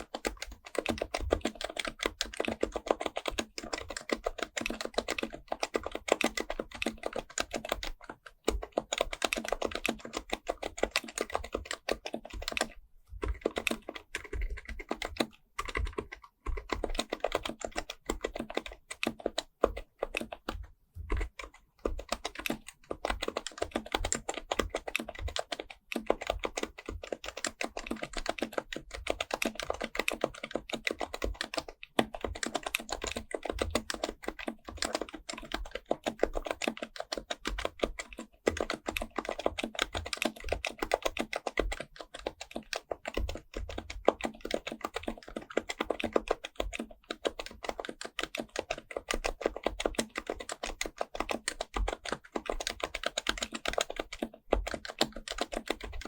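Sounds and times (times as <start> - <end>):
fast typing on keyboard: 0.0 - 56.0.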